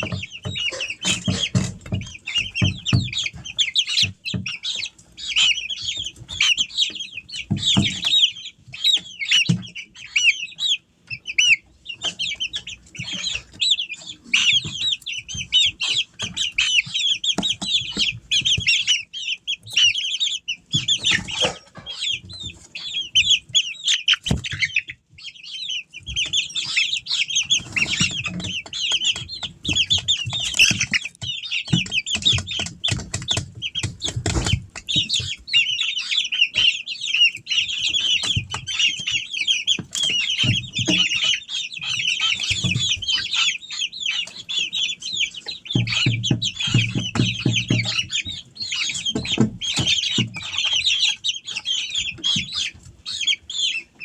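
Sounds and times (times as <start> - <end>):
chicks peeping and chirping: 0.0 - 54.0.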